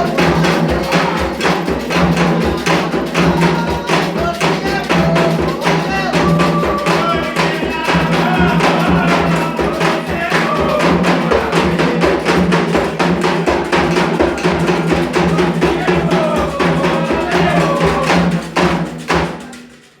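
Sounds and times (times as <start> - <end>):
clacking percussion: 0.0 - 20.0
hand drums beating: 0.0 - 20.0
voices singing: 0.0 - 20.0.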